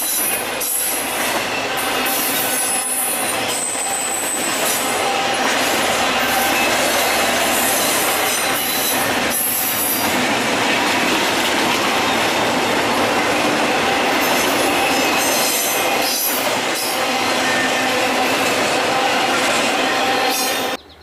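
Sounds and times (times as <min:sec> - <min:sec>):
train wheels rolling on rails: 0:00.0 - 0:20.8.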